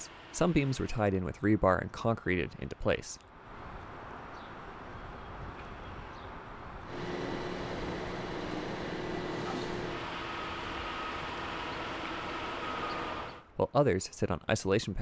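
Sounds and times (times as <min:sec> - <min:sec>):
outdoor vehicle noise: 0:00.0 - 0:02.6, 0:03.2 - 0:13.6.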